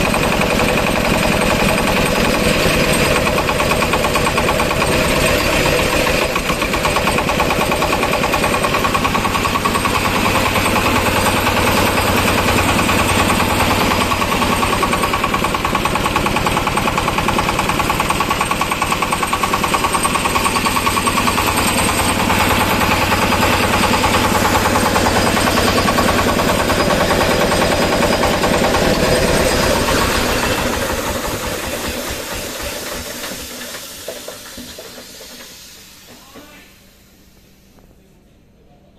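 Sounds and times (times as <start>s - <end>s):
diesel engine running: 0.0s - 36.1s.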